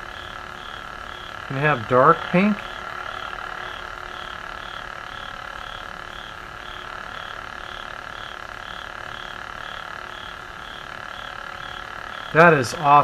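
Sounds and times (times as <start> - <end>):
lightsaber hum with pulsing warble: 0.0 - 13.0.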